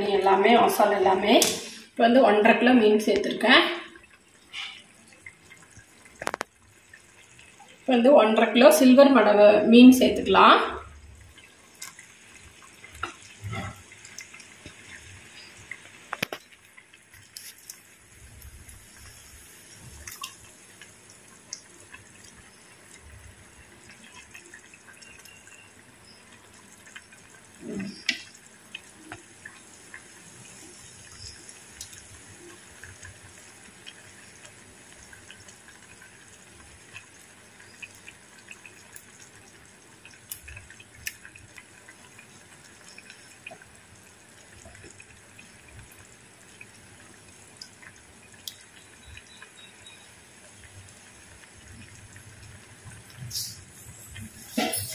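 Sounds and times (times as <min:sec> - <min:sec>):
gravy bubbling: 0:00.0 - 0:54.9.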